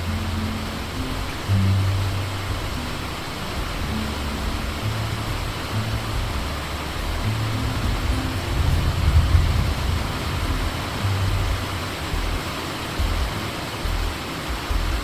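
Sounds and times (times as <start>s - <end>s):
deep uneven rumble: 0.0s - 15.0s
rain hissing on a shed roof: 0.0s - 15.0s.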